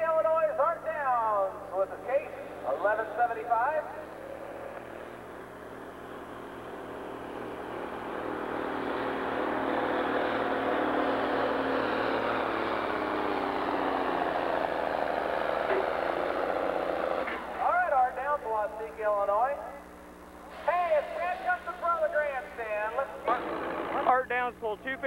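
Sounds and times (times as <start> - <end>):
tractor diesel engine under load: 0.0 - 24.8.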